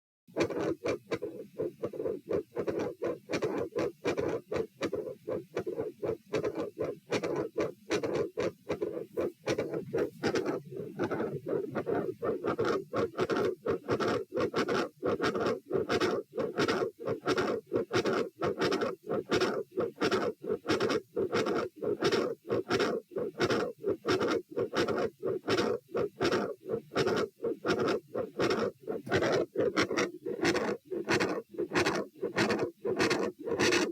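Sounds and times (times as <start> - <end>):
heartbeat through stethoscope: 0.3 - 33.9.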